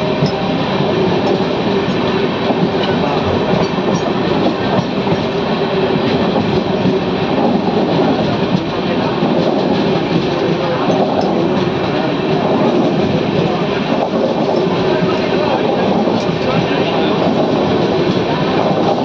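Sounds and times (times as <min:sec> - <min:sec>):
train rumbling past: 0:00.0 - 0:19.0
train wheels clattering: 0:00.0 - 0:19.0.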